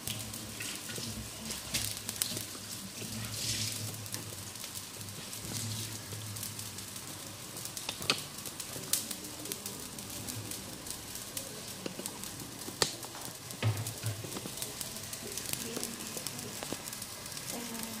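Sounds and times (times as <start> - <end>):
chicken frying: 0.0 - 18.0.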